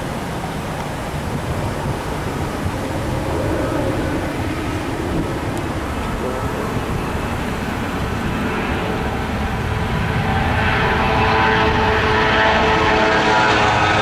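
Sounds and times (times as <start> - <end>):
jet engine whine: 0.0 - 14.0
jet engines rumbling: 0.0 - 14.0.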